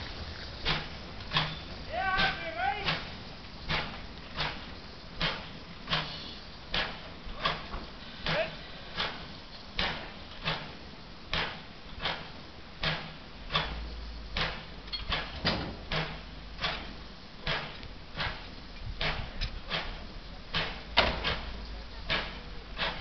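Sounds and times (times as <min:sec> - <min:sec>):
steam locomotive exhaust chuffs: 0:00.0 - 0:23.0.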